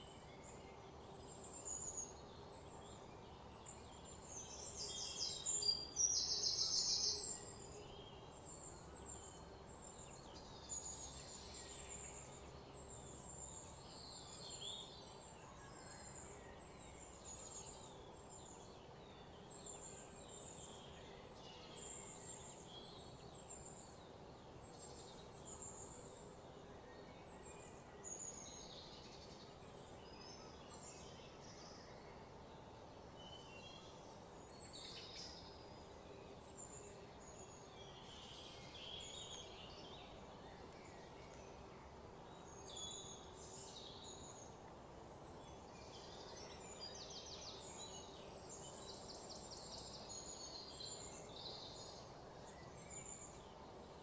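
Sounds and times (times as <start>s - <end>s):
outdoor background noise: 0.0s - 54.0s
small birds chirping: 0.0s - 54.0s.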